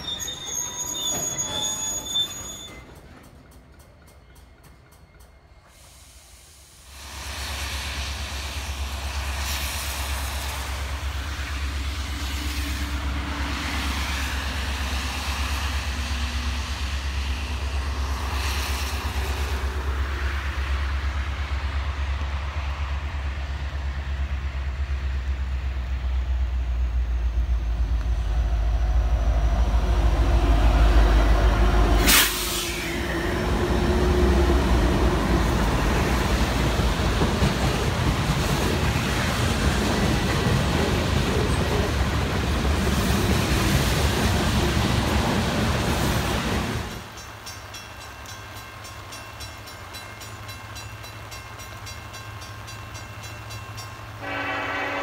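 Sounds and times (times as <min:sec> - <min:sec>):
diesel locomotive engine: 0:00.0 - 0:55.0
freight train passing: 0:00.0 - 0:55.0.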